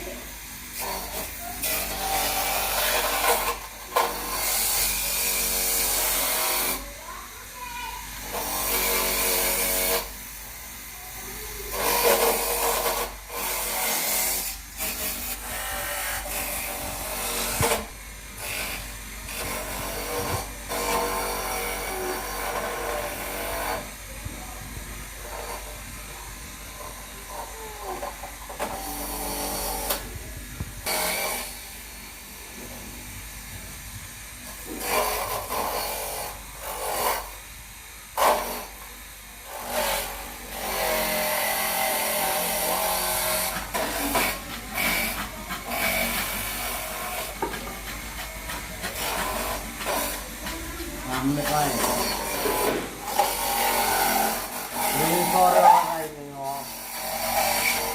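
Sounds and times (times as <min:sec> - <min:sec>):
electric coconut grater running: 0:00.0 - 0:57.9.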